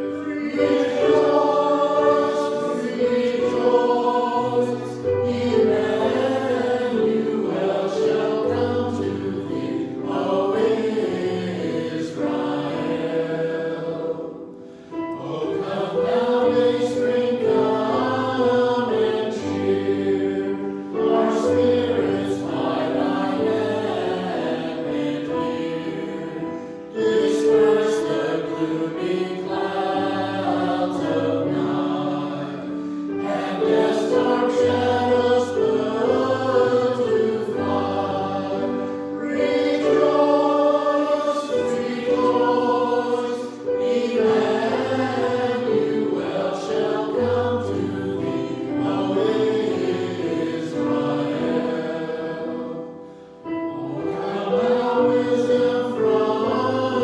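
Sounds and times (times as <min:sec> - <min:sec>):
church choir singing a hymn: 0:00.0 - 0:57.0.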